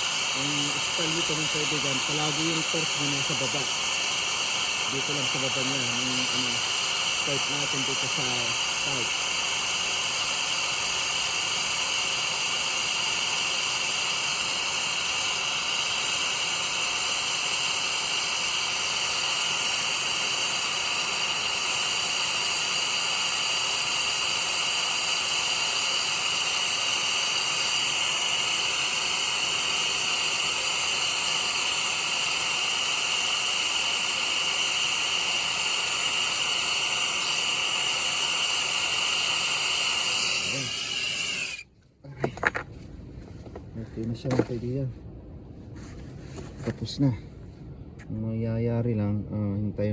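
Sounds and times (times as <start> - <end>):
torch flame hissing: 0.0 - 42.6, 43.4 - 44.8.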